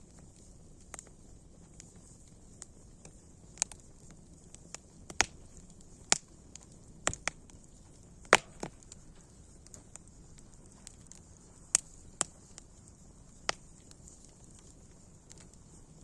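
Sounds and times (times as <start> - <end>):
wood campfire crackling: 0.0 - 16.0.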